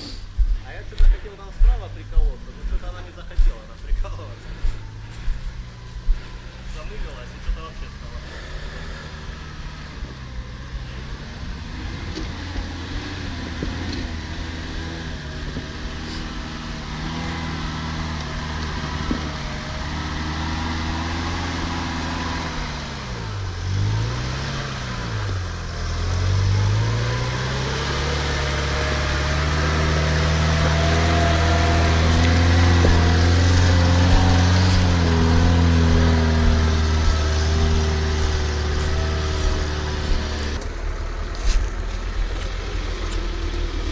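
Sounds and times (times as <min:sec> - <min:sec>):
engine working under load: 0:00.0 - 0:43.9.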